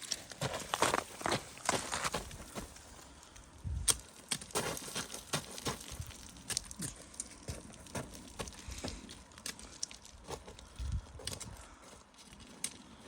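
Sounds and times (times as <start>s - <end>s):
footsteps on a trail: 0.0s - 3.1s, 3.9s - 12.4s.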